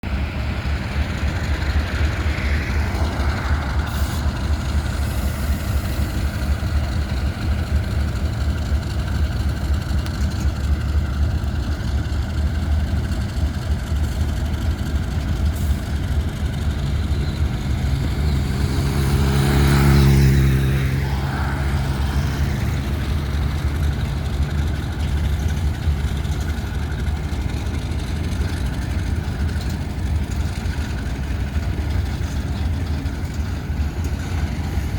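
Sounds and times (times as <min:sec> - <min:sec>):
diesel locomotive engine rumble: 0:00.0 - 0:34.9.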